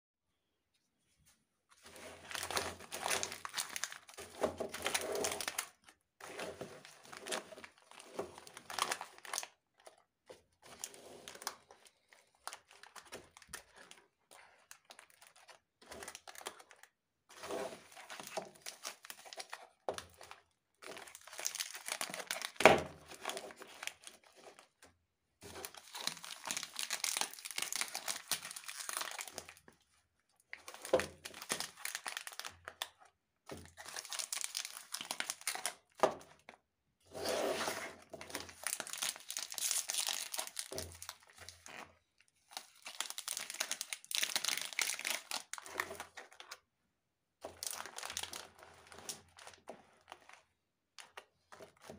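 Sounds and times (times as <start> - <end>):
plastic wrappers crinkling: 1.8 - 24.8, 25.4 - 29.8, 30.5 - 36.5, 38.2 - 46.6, 47.4 - 51.9.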